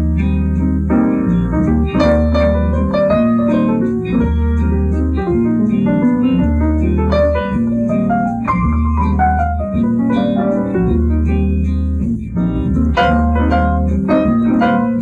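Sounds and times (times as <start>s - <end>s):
deep bass note: 0.0s - 15.0s
keyboard chords: 0.0s - 15.0s.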